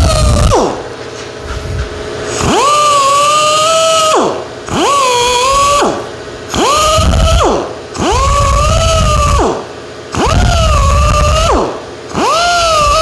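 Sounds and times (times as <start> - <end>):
die grinder high whine: 0.0 - 0.9, 2.2 - 13.0.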